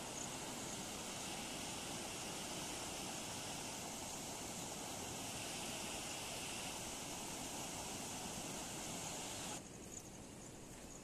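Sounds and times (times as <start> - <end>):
floodwater rushing: 0.0 - 9.6.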